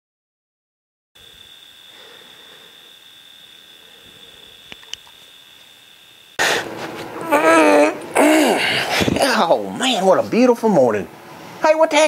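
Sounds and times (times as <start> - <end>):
crickets trilling: 1.2 - 12.0.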